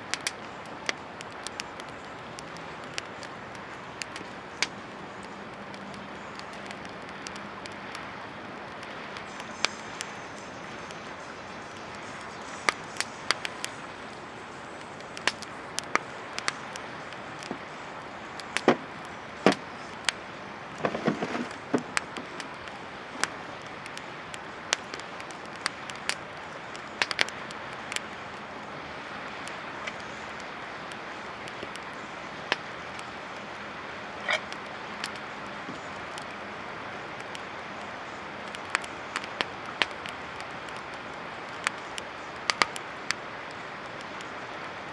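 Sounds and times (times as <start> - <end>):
campfire crackling and popping: 0.0 - 44.9
fire hissing: 0.0 - 44.9.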